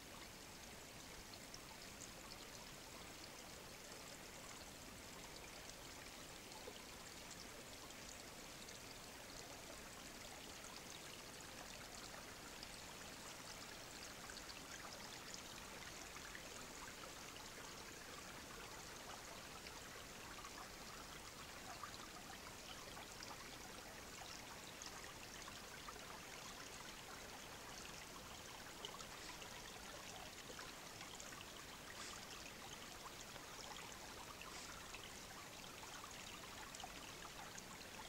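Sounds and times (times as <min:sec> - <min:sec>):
stream babbling over stones: 0:00.0 - 0:38.0.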